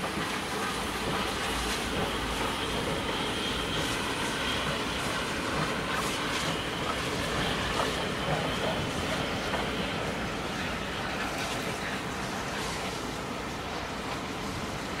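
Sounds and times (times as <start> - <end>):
train rumbling over bridge: 0.0 - 15.0.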